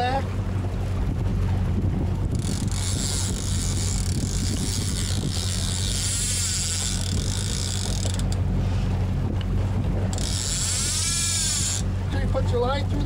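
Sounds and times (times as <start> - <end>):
boat engine running: 0.0 - 13.0
wind and water hiss: 0.0 - 13.0.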